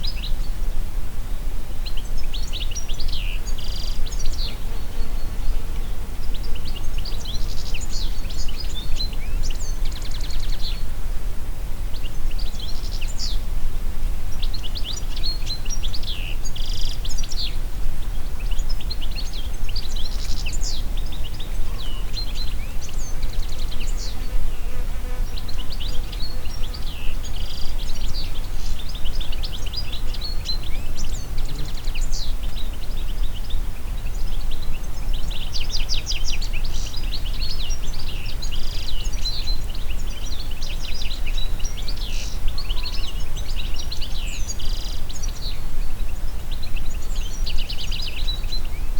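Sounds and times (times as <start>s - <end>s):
wind through trees: 0.0s - 48.9s.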